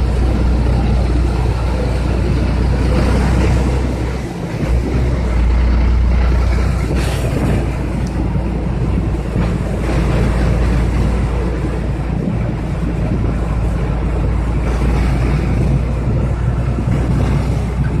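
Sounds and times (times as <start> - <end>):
vehicle engine drone: 0.0 - 18.0
wind on microphone: 0.0 - 18.0.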